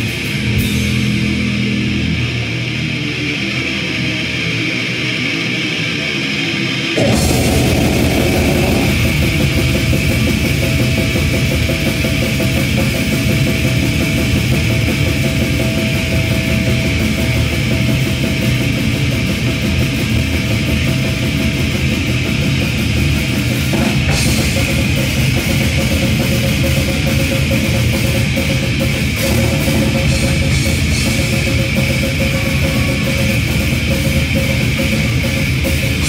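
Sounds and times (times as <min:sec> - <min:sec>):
heavy metal band playing: 0:00.0 - 0:36.0.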